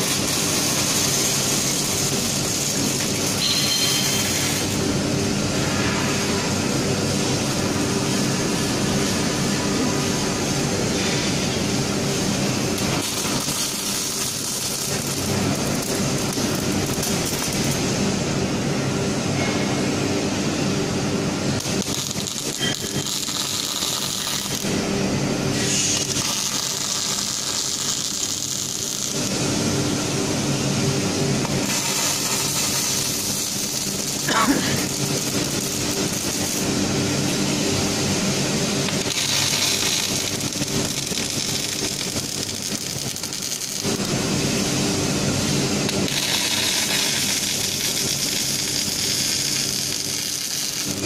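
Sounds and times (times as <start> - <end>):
machinery hum and hiss: 0.0 - 51.0.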